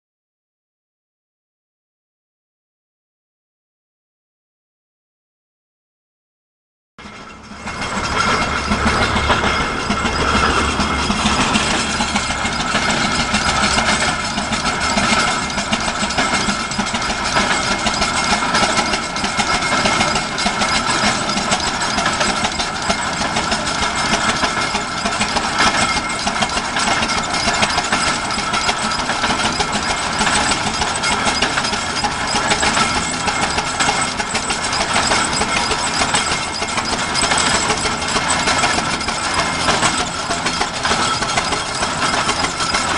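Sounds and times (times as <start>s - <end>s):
tractor engine knocking: 7.0s - 42.9s.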